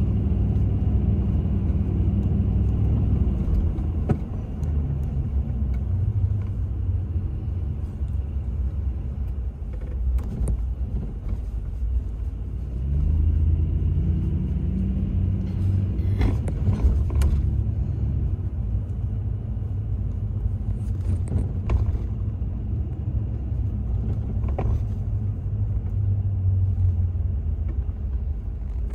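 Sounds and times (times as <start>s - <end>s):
car engine and tyres rumbling: 0.0s - 28.9s.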